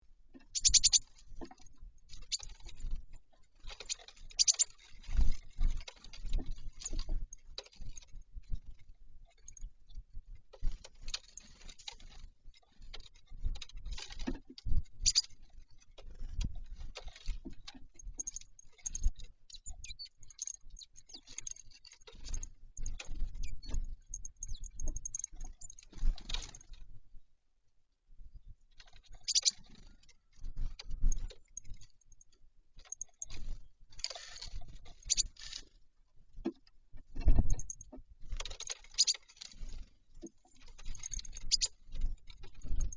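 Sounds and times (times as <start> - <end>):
birds pecking taps and knocks: 0.3 - 26.9, 28.8 - 42.9.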